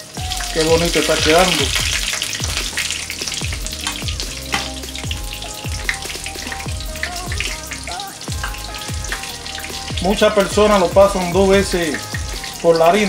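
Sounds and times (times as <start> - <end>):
shrimp sizzling in hot oil: 0.0 - 13.0.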